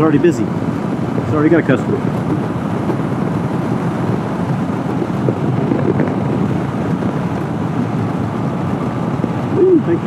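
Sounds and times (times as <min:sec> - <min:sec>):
motorcycle engine: 0:00.0 - 0:10.0
road noise: 0:00.0 - 0:10.0
wind rush on microphone: 0:00.0 - 0:10.0.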